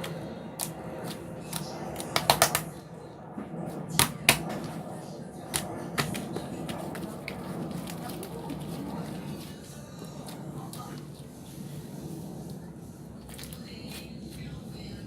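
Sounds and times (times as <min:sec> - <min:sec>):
low background murmur: 0:00.0 - 0:15.0.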